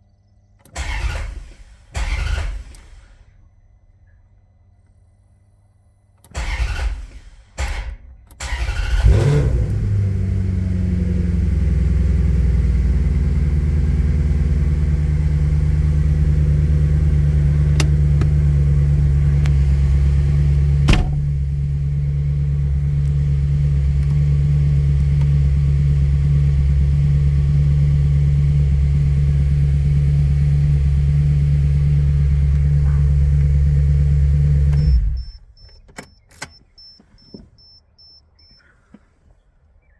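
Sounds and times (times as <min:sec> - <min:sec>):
car engine cranking and idling: 0:00.6 - 0:03.3, 0:06.2 - 0:37.5.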